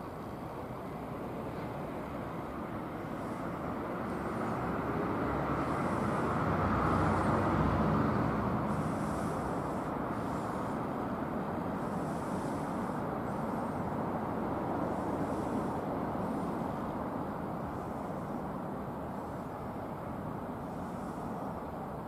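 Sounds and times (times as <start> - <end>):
train wheels and motors rumbling: 0.0 - 22.0.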